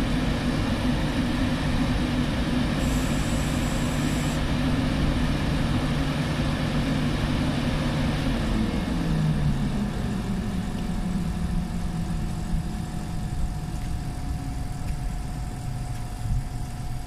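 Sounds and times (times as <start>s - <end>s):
cooling fans humming: 0.0s - 17.0s
steady high whine: 0.0s - 17.0s.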